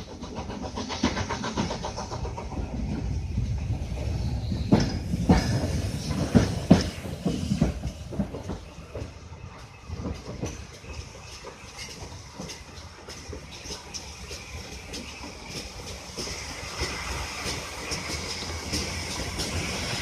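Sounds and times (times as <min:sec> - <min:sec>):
clanks over rail joints: 0:00.0 - 0:20.0
train wheels rumbling: 0:00.0 - 0:20.0.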